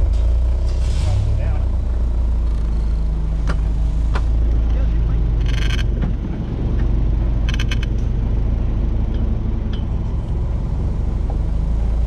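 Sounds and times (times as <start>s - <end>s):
off-road engine running low: 0.0s - 12.0s.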